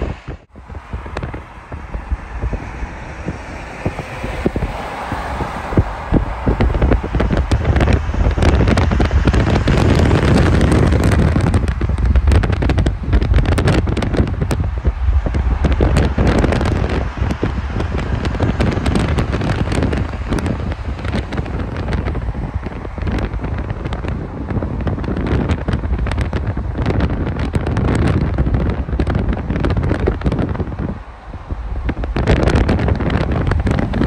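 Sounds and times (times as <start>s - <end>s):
car road noise: 0.0s - 34.0s
wind buffeting microphone: 0.0s - 34.0s.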